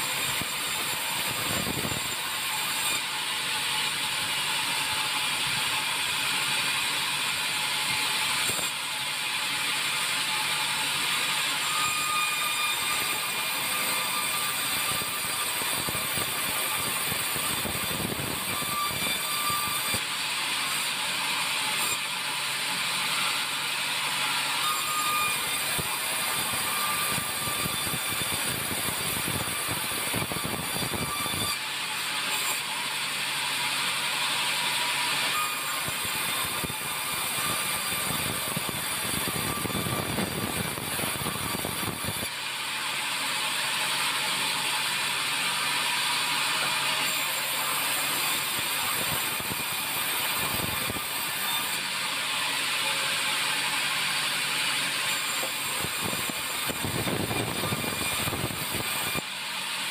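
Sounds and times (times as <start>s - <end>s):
band saw cutting timber: 0.0s - 59.9s.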